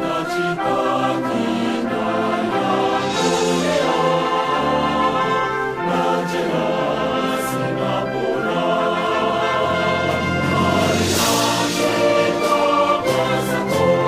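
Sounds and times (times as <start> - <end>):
choir singing sustained notes: 0.0 - 14.0
orchestral accompaniment: 0.0 - 14.0.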